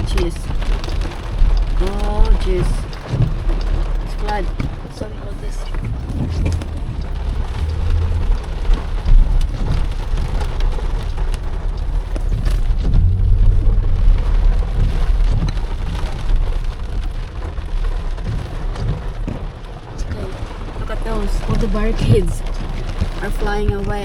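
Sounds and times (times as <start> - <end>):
rain pelting car body: 0.0 - 24.0
steady low rumble: 0.0 - 24.0.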